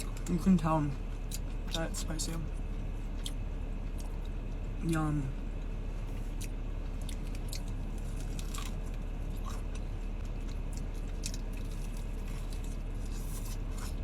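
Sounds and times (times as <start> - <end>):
person chewing crunchy food: 0.0 - 4.6, 5.6 - 14.0
low steady hum: 0.0 - 14.0.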